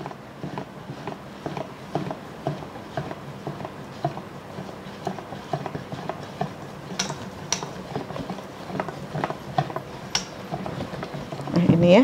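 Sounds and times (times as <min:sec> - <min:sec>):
whisk clicking in metal bowl: 0:00.0 - 0:12.0.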